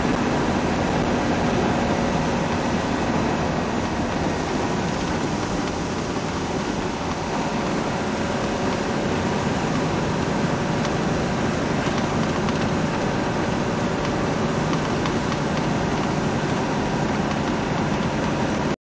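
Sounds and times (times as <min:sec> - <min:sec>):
tyres on wet pavement: 0:00.0 - 0:18.8
vehicle engine running: 0:00.0 - 0:18.8.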